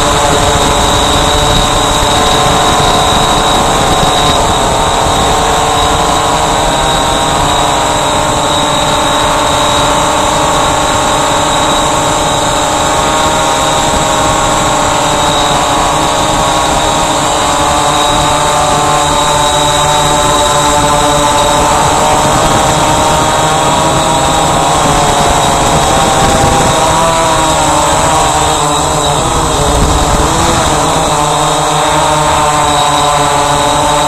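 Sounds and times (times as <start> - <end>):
constant high tone: 0.0 - 34.0
quadcopter propellers whining: 0.0 - 34.0.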